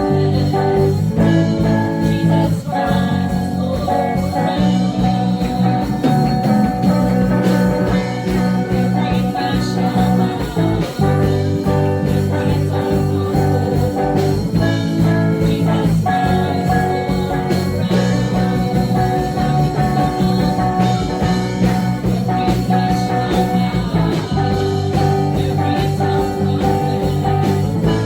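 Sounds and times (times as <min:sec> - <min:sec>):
worship music with guitar and bass: 0:00.0 - 0:28.0.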